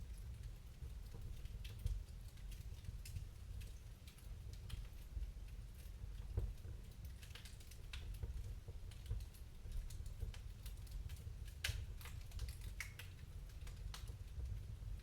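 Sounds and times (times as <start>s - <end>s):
wood fire crackling: 0.1s - 15.0s.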